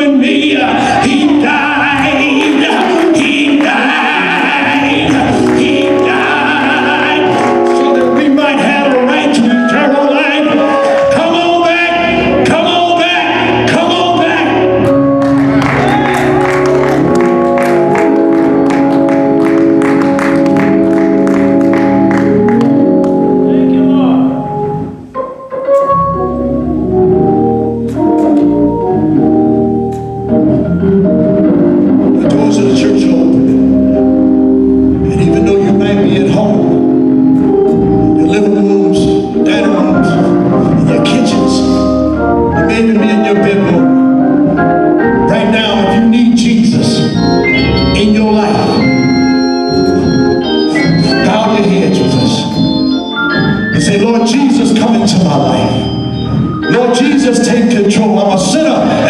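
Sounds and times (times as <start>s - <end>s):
organ playing chords: 0.0s - 59.0s.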